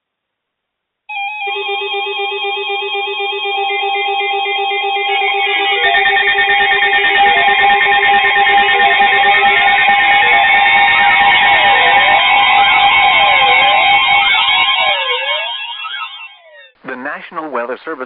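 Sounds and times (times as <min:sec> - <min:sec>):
electronic music plucked melody: 0:01.1 - 0:16.8.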